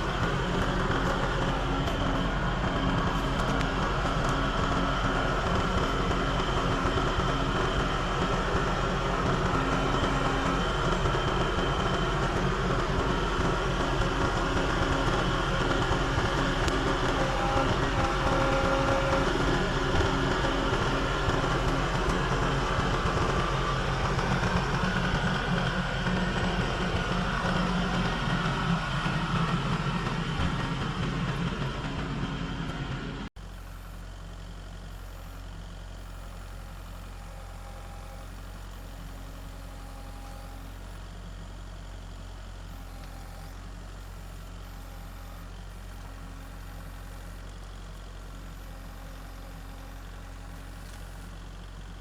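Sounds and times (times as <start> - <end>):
engine running with low hum: 0.0 - 52.0.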